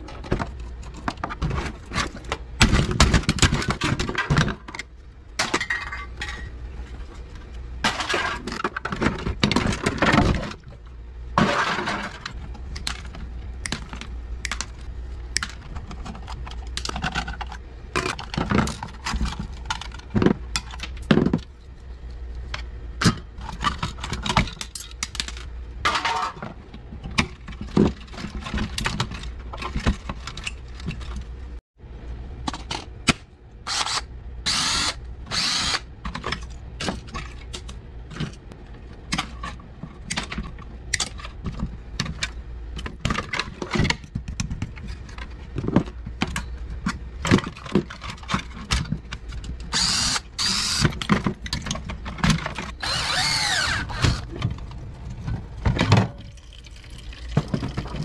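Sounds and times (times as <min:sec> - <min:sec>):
tools and plastic parts clattering: 0:00.0 - 0:31.6, 0:32.4 - 0:56.4, 0:57.2 - 0:58.0
steady low hum: 0:00.0 - 0:58.0.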